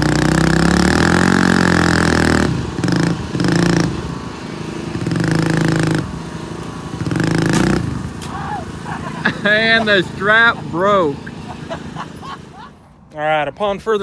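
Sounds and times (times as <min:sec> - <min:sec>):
small engines revving hard: 0:00.0 - 0:13.1.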